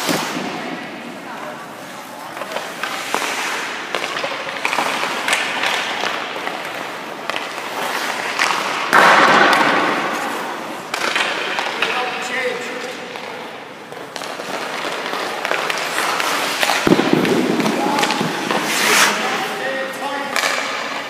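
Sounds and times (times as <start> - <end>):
skate blades scraping ice: 0.0 - 21.0.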